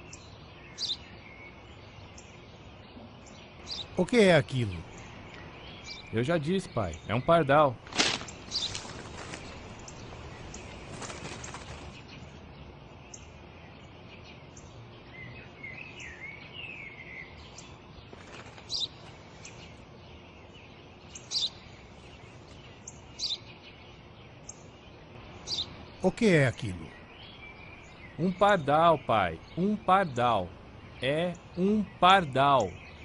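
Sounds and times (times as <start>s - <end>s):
birds chirping: 0.0s - 33.0s
steady background hiss: 0.0s - 33.0s.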